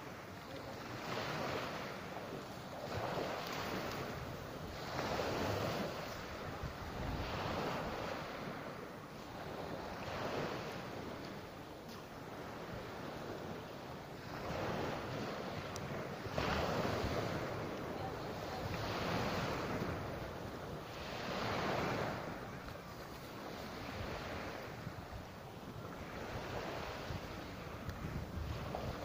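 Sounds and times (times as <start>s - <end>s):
waves washing onto pebble beach: 0.0s - 29.0s.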